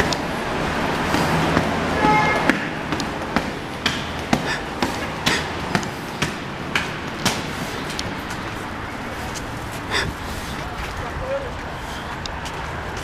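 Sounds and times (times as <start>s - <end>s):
city traffic hum: 0.0s - 13.0s
footsteps on stone steps: 0.0s - 13.0s
footsteps on wet pavement: 0.0s - 13.0s.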